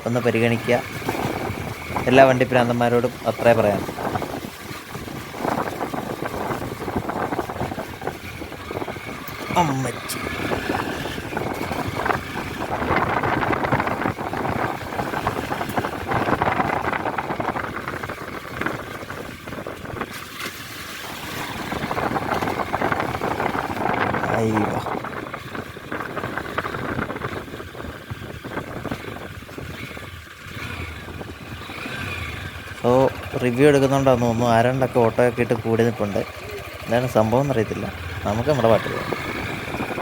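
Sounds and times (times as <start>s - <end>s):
motorcycle engine running: 0.0s - 40.0s
wind noise on microphone: 0.0s - 40.0s.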